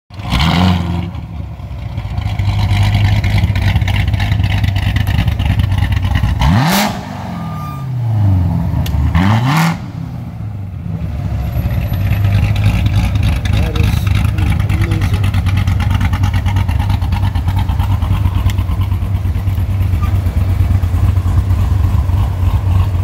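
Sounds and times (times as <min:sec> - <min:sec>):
car engine idling and revving: 0:00.1 - 0:23.0.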